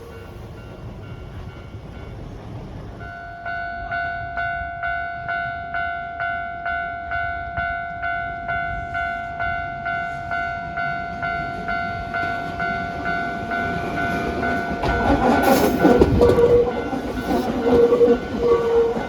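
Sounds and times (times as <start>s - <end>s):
level crossing warning bell ringing: 3.0s - 19.0s.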